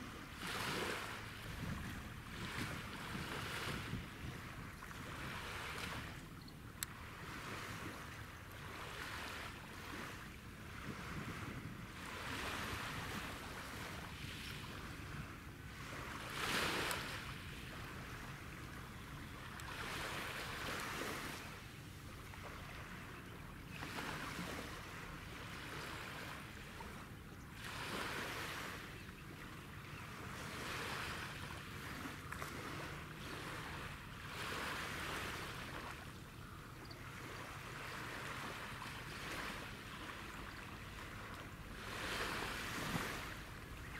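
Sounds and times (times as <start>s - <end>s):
small waves washing on shore: 0.0s - 43.9s.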